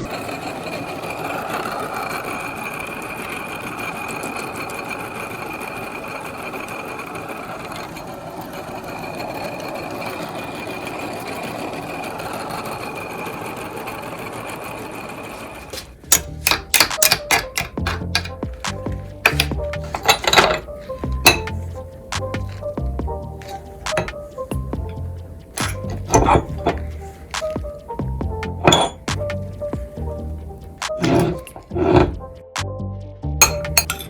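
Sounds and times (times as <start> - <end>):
meat grinder motor whine: 0.0 - 32.2.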